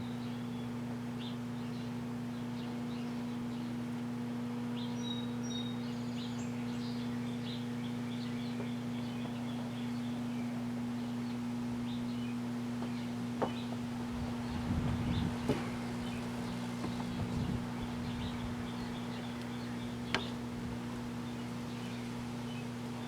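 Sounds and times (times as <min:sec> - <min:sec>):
birds chirping: 0:00.0 - 0:23.0
microwave oven humming: 0:00.0 - 0:23.0.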